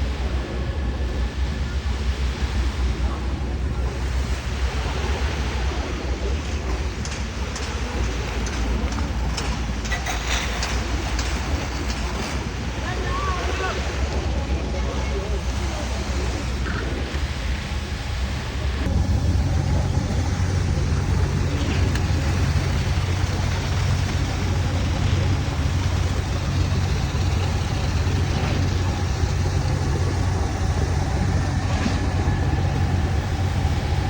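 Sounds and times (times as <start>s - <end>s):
concrete pump engine rumble: 0.0s - 34.0s.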